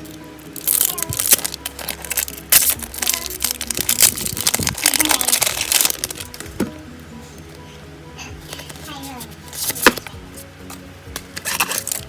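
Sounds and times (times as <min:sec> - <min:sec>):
foil wrappers crinkling: 0:00.0 - 0:06.8, 0:08.4 - 0:12.0
background music: 0:00.0 - 0:12.0.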